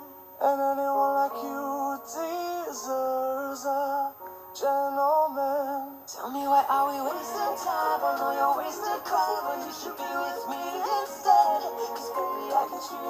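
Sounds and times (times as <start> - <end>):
pop song with sung vocals: 0.4 - 13.0.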